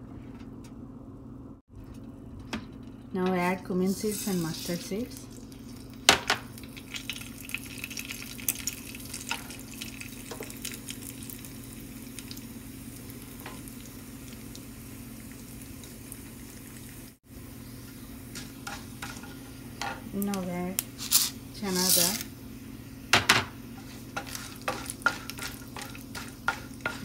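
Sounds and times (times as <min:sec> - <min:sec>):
steady low hum: 0:00.0 - 0:27.0
seeds sizzling in hot oil: 0:03.8 - 0:27.0.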